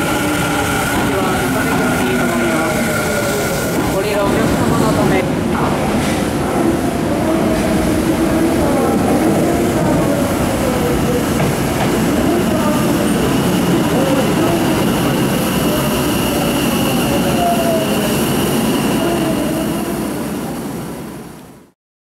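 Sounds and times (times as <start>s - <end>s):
subway train motors whining: 0.0s - 21.7s.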